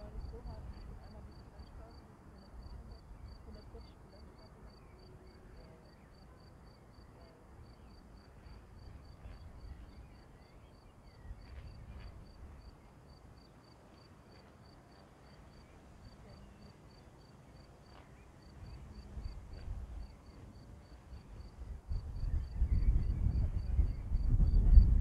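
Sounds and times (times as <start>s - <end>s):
insect chirping: 1.9s - 24.4s.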